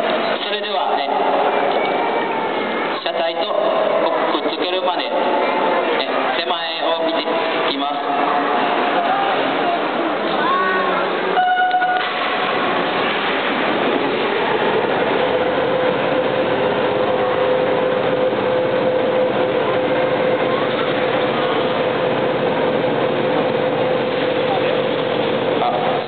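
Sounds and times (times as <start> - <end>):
overhead crane mechanical noise: 0.0 - 26.0
steady whine: 0.0 - 26.0.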